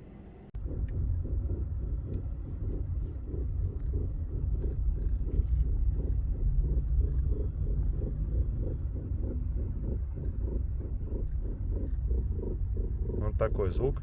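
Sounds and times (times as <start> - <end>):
car interior rumble: 0.0 - 14.0
rapid repeated pulsing: 0.6 - 14.0.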